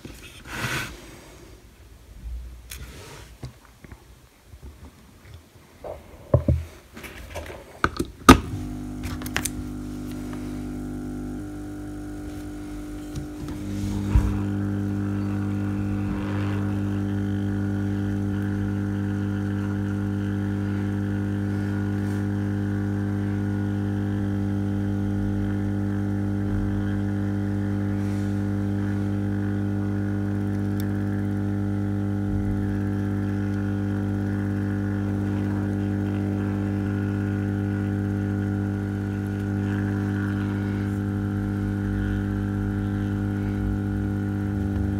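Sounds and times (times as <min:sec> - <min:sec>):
hot-air blower humming: 0:00.0 - 0:02.0, 0:05.7 - 0:44.9.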